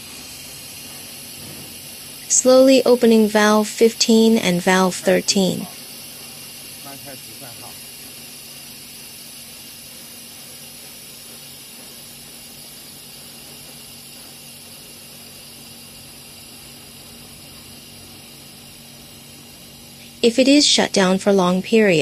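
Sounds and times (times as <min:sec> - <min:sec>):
gas hissing through valves: 0:00.0 - 0:22.0
machine hum: 0:00.0 - 0:22.0.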